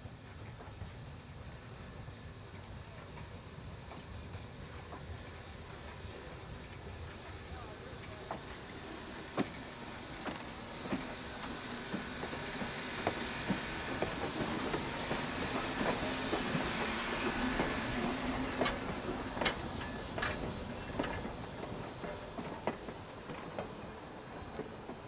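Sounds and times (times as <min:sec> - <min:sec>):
steam locomotive hissing: 0:00.0 - 0:25.0.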